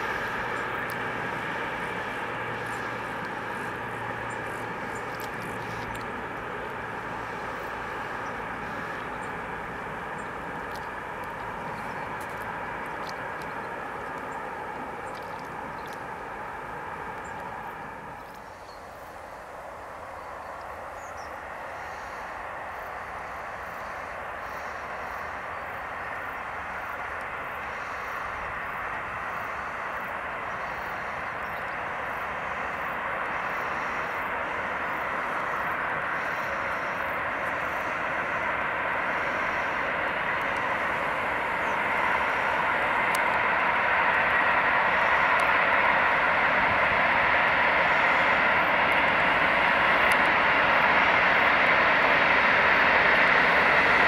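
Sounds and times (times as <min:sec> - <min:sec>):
electric locomotive approaching: 0:00.0 - 0:54.0
freight train rolling past: 0:00.0 - 0:54.0.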